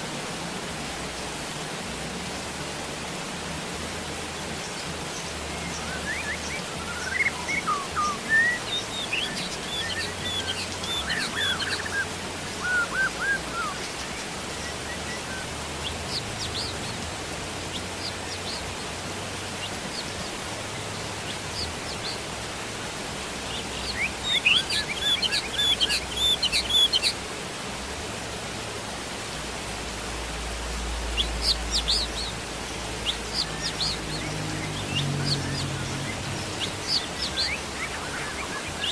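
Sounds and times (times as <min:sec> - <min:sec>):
rain hiss: 0:00.0 - 0:38.9
songbirds chirping: 0:00.0 - 0:38.9.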